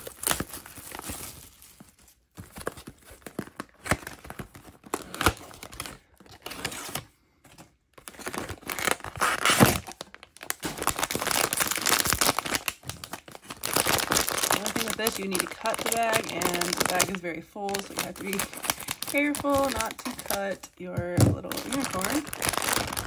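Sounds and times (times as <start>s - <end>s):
foil bag crinkling: 0.0s - 6.6s, 8.0s - 23.0s
packaging being torn open: 0.0s - 7.1s, 8.0s - 20.6s, 21.4s - 23.0s.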